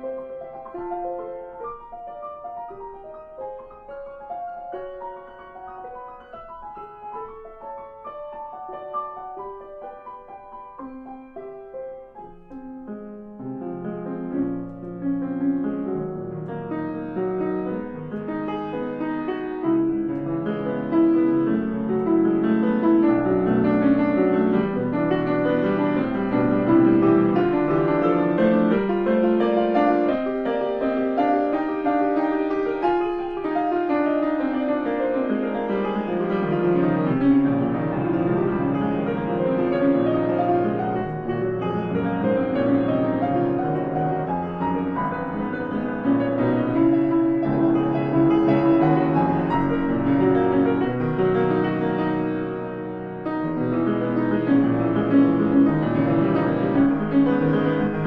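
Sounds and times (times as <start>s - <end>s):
grand piano improvisation: 0.0s - 58.0s.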